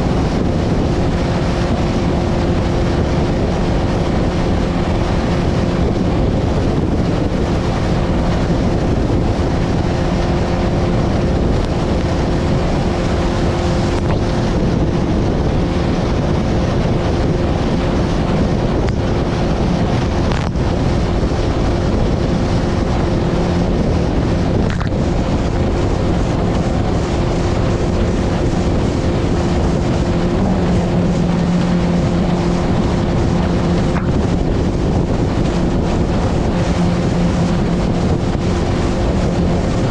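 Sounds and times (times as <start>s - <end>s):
choppy water rushing: 0.0s - 39.9s
motorboat engine hum: 0.0s - 39.9s
wind buffeting microphone: 0.0s - 39.9s.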